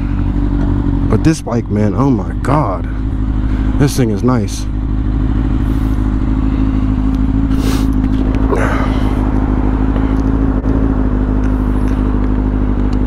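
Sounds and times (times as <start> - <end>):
motorcycle engine at steady revs: 0.0 - 13.0.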